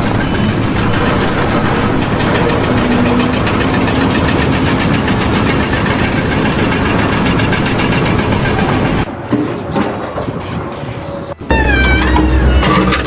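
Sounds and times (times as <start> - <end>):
heavy machine engine rattling: 0.0 - 13.0.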